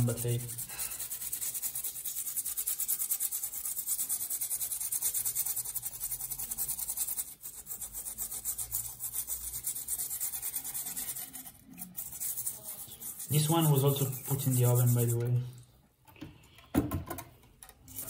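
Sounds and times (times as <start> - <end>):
brush scrubbing circuit board: 0.0 - 15.7.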